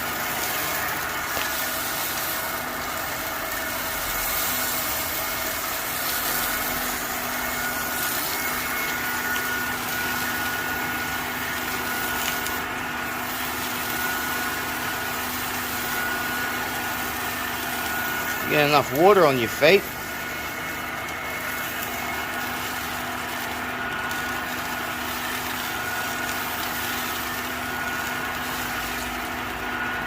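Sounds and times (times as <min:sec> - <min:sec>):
workshop motor running: 0:00.0 - 0:30.0.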